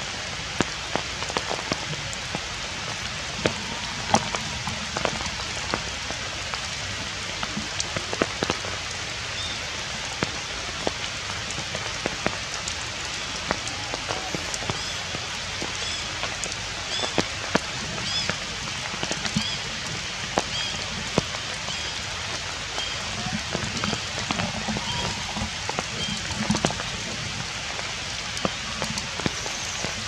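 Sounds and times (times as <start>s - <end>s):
rain hiss: 0.0s - 30.0s
raindrops tapping: 0.0s - 30.0s.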